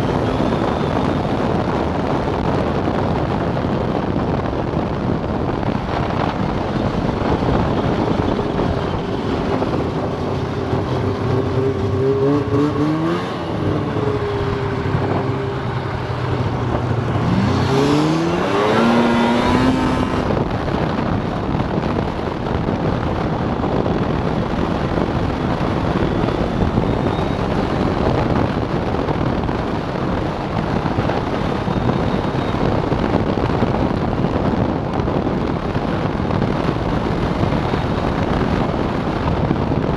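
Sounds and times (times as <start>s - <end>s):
snowmobile engine: 0.0s - 32.2s
wind noise: 0.0s - 39.9s.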